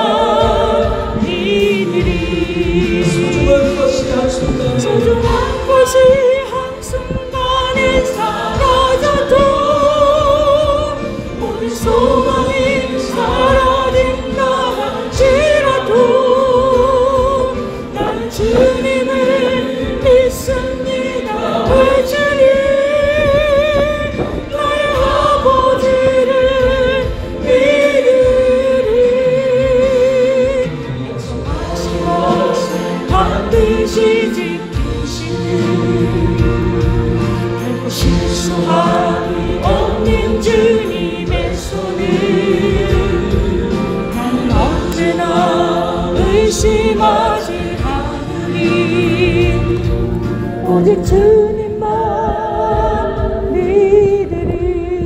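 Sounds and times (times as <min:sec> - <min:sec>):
backing music: 0:00.0 - 0:55.0
people singing gospel: 0:00.0 - 0:55.0.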